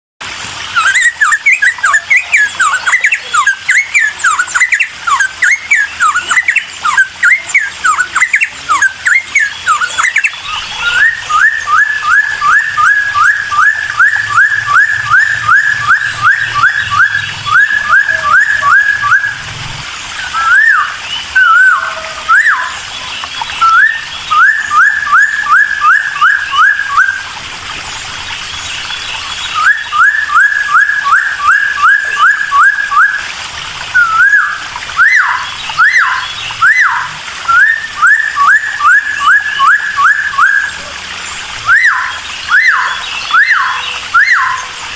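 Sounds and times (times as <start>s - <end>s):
bird singing whistled notes: 0.7s - 19.5s, 20.2s - 27.3s, 28.5s - 33.3s, 33.9s - 40.9s, 41.6s - 44.8s.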